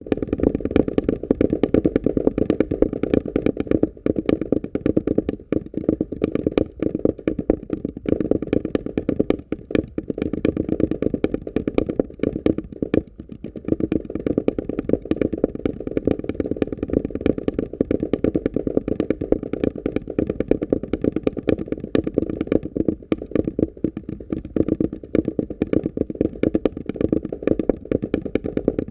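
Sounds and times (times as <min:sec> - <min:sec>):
cotton balls knocking on cardboard: 0:00.0 - 0:28.9.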